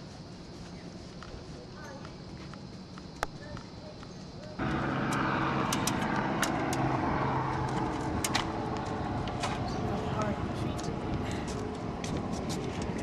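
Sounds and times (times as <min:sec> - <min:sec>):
outdoor noise: 0:00.0 - 0:13.0.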